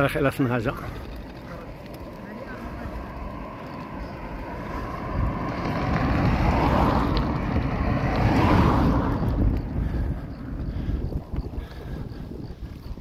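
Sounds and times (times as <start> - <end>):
vehicle road and engine noise: 0.0 - 13.0
wind rushing over microphone: 0.9 - 13.0.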